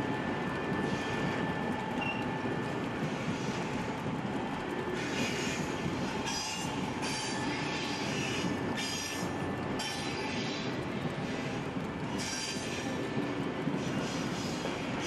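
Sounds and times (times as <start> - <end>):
model train wheels rumbling on rail: 0.0 - 15.0.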